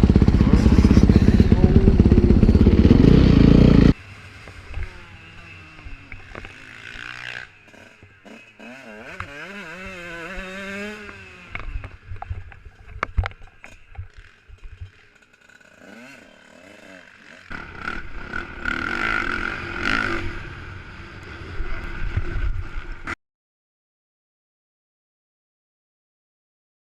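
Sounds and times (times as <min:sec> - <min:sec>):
motorcycle engine revving: 0:00.0 - 0:23.1
motocross bike engine: 0:00.0 - 0:23.2.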